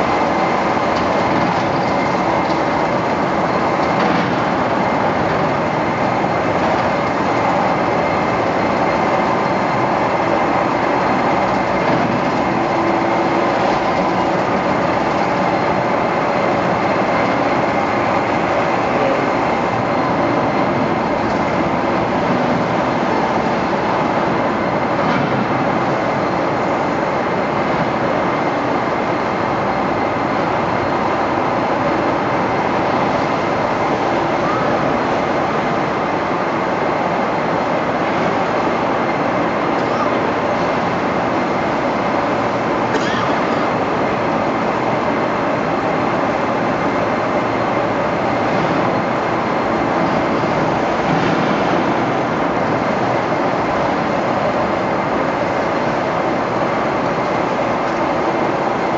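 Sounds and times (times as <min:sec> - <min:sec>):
turntable mechanical running noise: 0:00.0 - 0:58.9.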